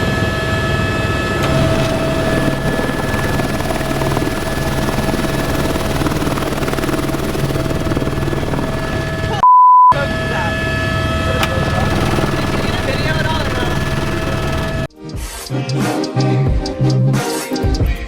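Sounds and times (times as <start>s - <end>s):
helicopter rotor chop: 0.0s - 14.9s
high whine: 0.0s - 14.9s.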